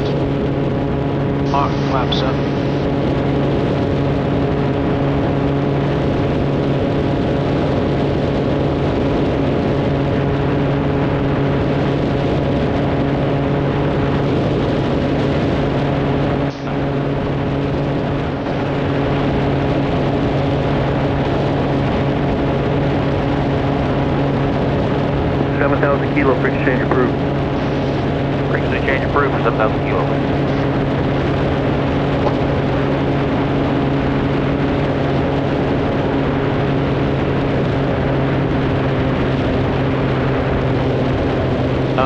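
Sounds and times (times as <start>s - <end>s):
propeller aircraft engine drone: 0.0s - 42.0s.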